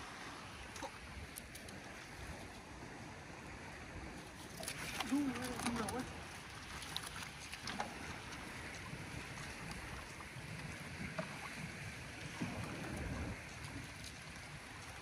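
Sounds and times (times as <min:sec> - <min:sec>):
water lapping and sloshing: 0:00.0 - 0:15.0
wind on microphone: 0:00.0 - 0:15.0.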